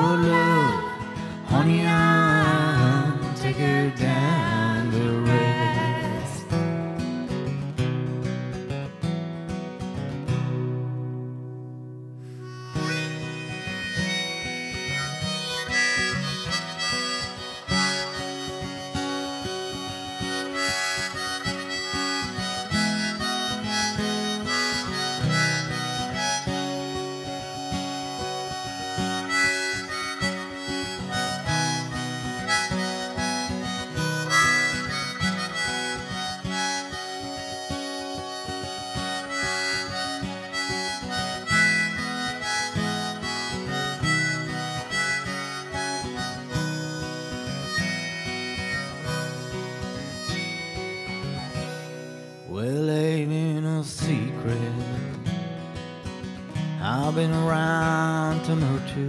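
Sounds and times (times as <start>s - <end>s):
harmonica solo: 0.0s - 7.6s, 12.2s - 59.0s
strummed guitar: 0.0s - 59.0s.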